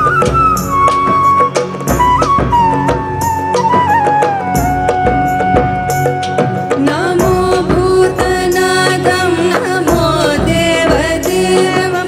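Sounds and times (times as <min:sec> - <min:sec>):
drum strokes: 0:00.0 - 0:12.0
instrumental melody line: 0:00.0 - 0:12.0.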